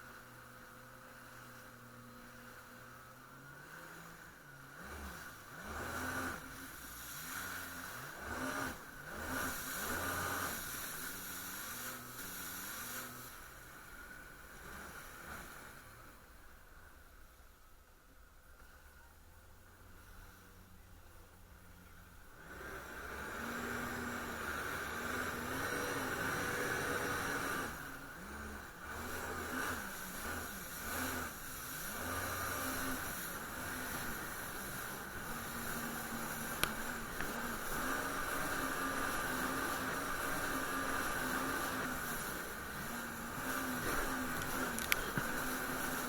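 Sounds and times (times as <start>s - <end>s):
jet ski engine revving: 0.0s - 17.3s, 18.6s - 46.0s
steady hiss: 6.3s - 46.0s.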